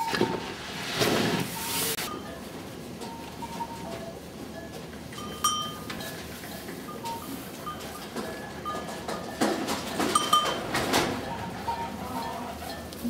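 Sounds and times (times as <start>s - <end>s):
metal livestock bell clanking: 2.1s - 13.0s.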